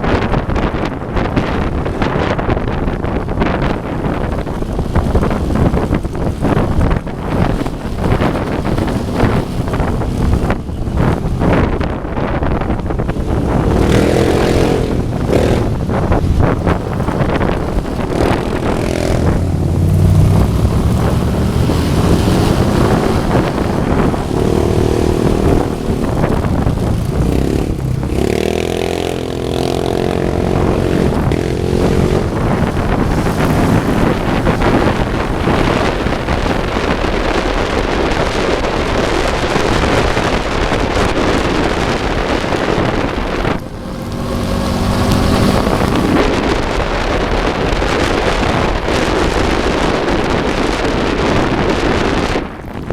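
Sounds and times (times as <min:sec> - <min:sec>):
wind buffeting microphone: 0:00.0 - 0:52.9
motorcycle engines revving: 0:00.1 - 0:52.9.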